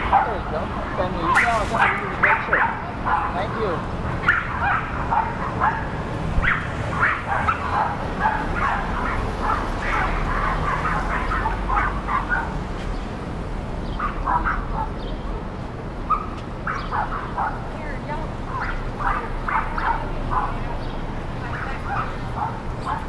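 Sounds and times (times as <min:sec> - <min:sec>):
dog barking: 0:00.0 - 0:00.6, 0:01.4 - 0:12.6, 0:13.9 - 0:15.1, 0:16.1 - 0:17.7, 0:18.5 - 0:20.9, 0:21.5 - 0:23.0.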